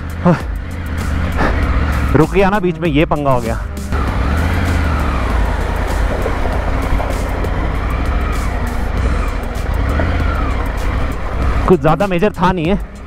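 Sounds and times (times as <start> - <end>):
motorcycle engine pulling away: 0.0 - 2.4, 3.6 - 13.0.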